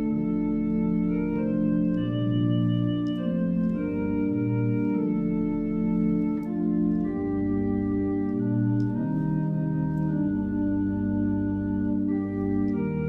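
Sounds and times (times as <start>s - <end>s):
deep organ bass notes: 0.0s - 13.0s
organ playing hymn chords: 0.0s - 13.0s.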